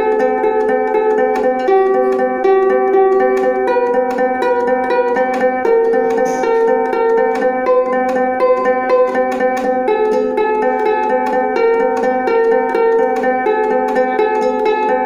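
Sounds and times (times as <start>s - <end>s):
fingerpicked ukulele: 0.0s - 15.0s.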